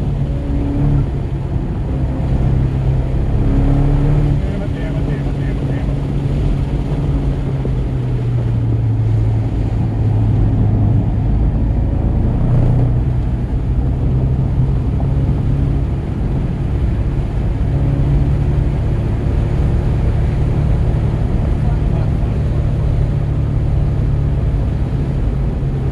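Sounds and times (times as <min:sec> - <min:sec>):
car engine droning: 0:00.0 - 0:25.9
road and wind noise: 0:00.0 - 0:25.9.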